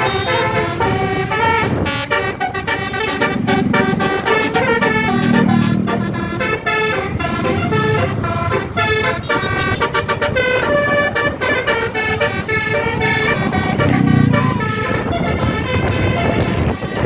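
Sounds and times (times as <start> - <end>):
musical air horn playing a tune: 0.0 - 17.0.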